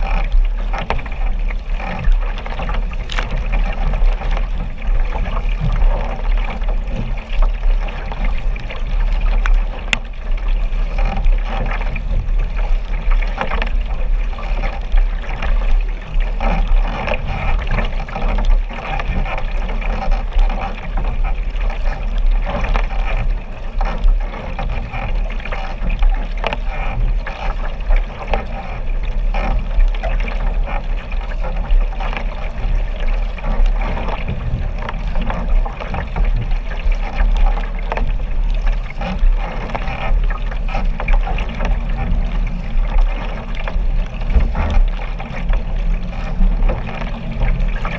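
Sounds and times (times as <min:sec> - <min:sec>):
paddle blade splashing water: 0:00.0 - 0:47.9
steady low rumble: 0:00.0 - 0:47.9
water rushing against hull: 0:00.0 - 0:47.9.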